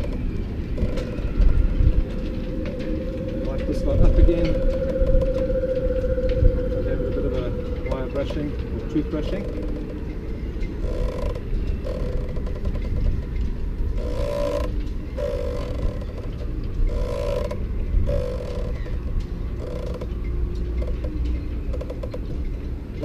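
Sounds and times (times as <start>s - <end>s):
short creak: 0.0s - 6.4s, 7.3s - 10.0s, 10.7s - 22.5s
wind rumble on microphone: 0.0s - 23.0s.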